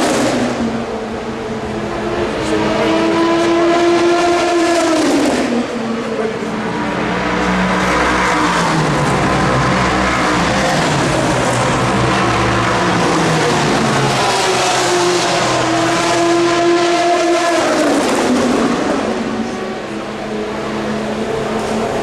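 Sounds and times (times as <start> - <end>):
race car engines at speed: 0.0 - 22.0.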